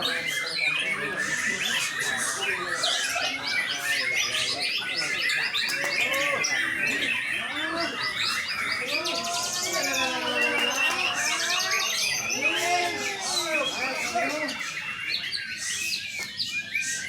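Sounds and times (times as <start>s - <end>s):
people talking: 0.0s - 16.4s
songbirds chirping and singing: 0.0s - 17.0s.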